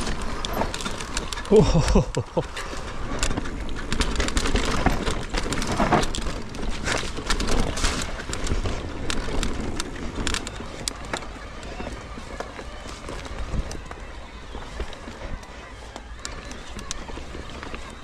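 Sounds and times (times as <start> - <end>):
bike rattling and knocking: 0.0 - 18.0
bike tyres rumbling on dirt: 0.0 - 18.0.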